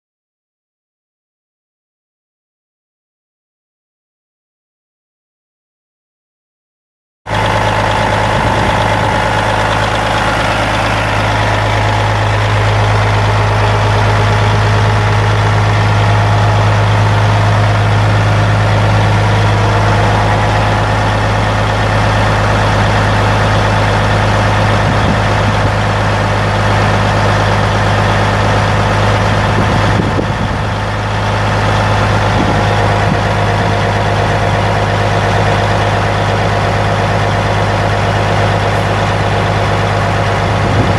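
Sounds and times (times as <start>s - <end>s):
diesel truck engine idling: 7.3s - 40.9s.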